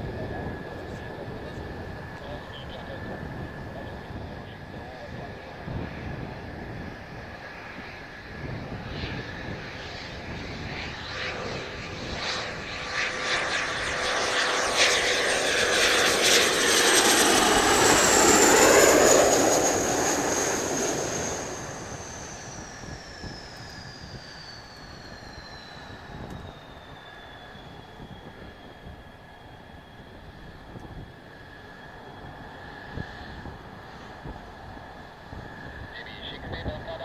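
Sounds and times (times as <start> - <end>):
jet aircraft passing: 0.0 - 37.0
jet engine high whine: 0.0 - 37.0.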